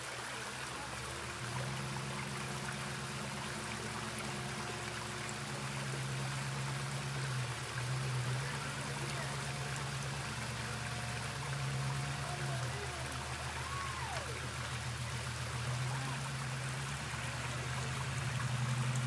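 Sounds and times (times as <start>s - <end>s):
off-road vehicle engine running: 0.0s - 19.0s
water rushing down waterfall: 0.0s - 19.0s.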